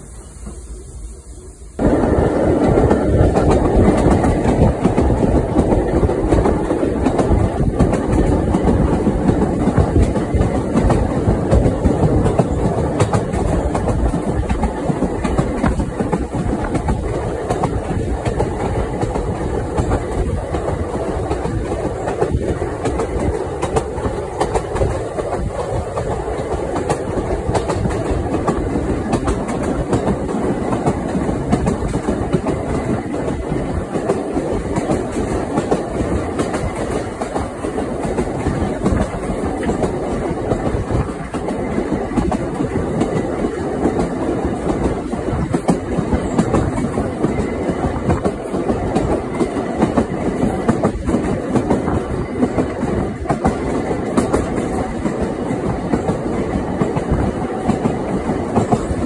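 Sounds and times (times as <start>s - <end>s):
train running noise: 0.0s - 59.0s.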